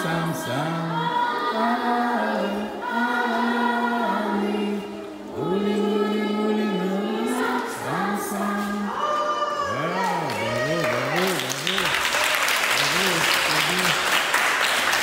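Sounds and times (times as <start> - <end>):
group of voices singing: 0.0 - 12.0, 12.7 - 14.0.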